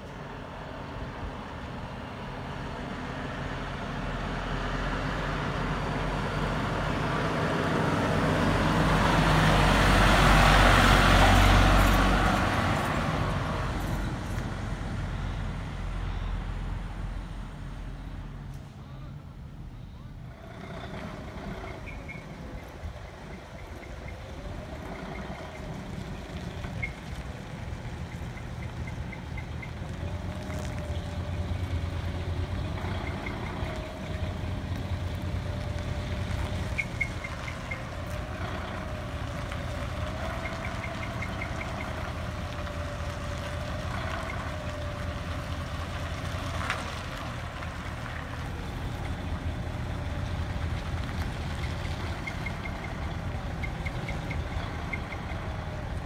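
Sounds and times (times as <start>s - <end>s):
truck diesel engine rumbling: 0.0s - 56.0s.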